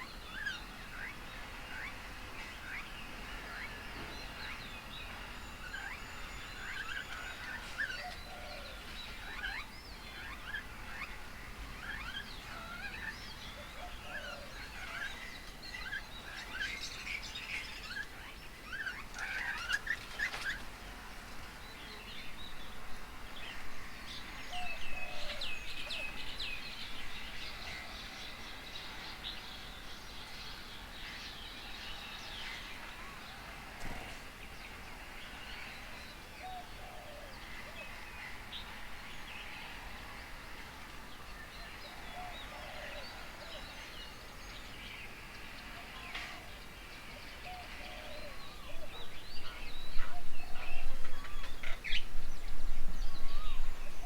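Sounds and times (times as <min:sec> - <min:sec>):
birds chirping and calling: 0:00.0 - 0:21.7, 0:23.4 - 0:54.0.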